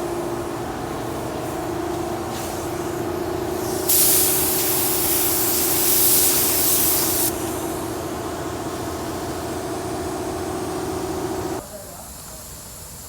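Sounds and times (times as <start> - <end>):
steady low hum: 0.0 - 11.6
paint spray gun hissing: 0.1 - 11.6.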